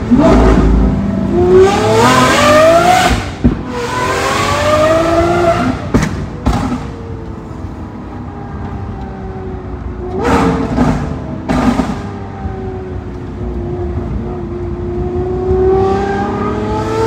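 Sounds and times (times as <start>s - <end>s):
sports car engine accelerating: 0.0s - 17.0s.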